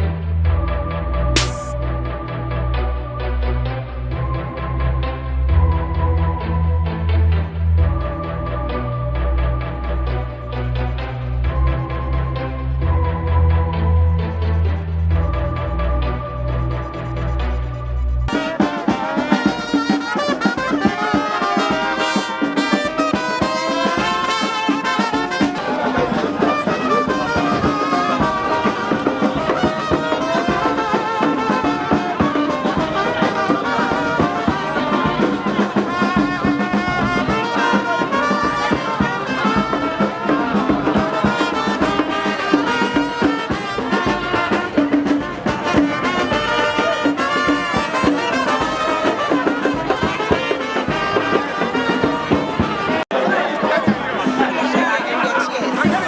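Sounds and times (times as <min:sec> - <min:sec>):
music with steady beat: 0:00.0 - 0:08.9, 0:09.6 - 0:54.3.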